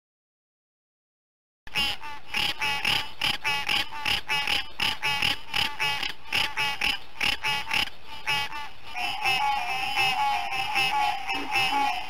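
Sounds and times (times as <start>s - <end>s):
tree frog calling: 1.8s - 12.0s
steady faint tone: 2.1s - 12.0s.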